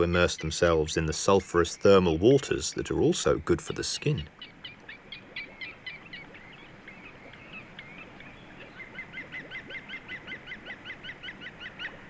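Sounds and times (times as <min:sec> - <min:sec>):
woodpecker calling: 0:01.5 - 0:12.0.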